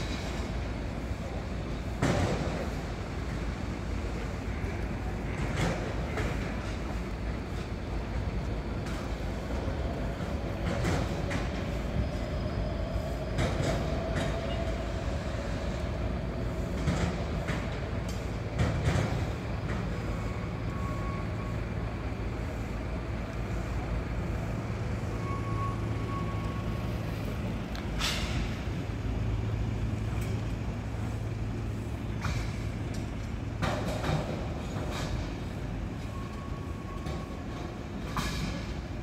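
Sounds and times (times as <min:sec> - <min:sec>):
vehicle engine humming: 0:00.0 - 0:38.2
city street noise: 0:00.0 - 0:39.0.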